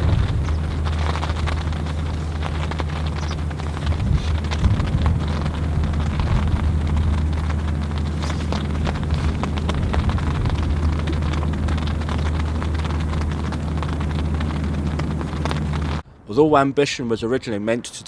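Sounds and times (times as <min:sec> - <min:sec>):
heavy rain ticking: 0:00.0 - 0:16.0
steady low drone: 0:00.0 - 0:16.3.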